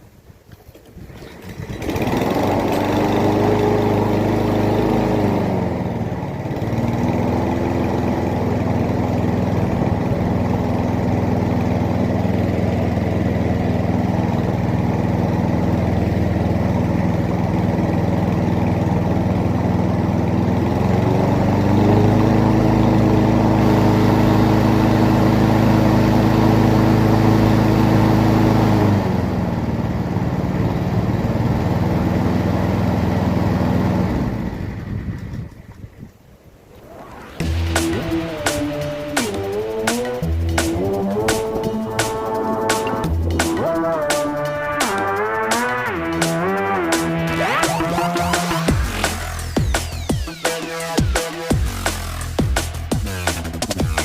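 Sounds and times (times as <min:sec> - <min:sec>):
lawnmower engine running: 0:00.0 - 0:54.0.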